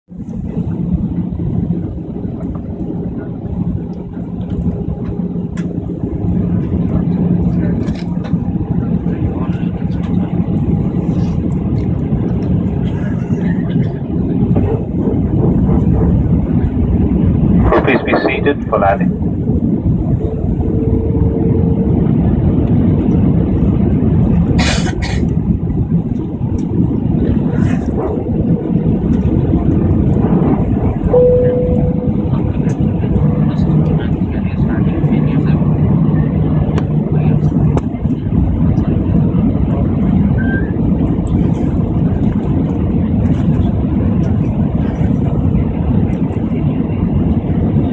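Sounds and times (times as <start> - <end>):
airliner engines droning: 0.1 - 47.9
constant low hum: 0.1 - 47.9
rushing air in cabin: 0.1 - 47.9.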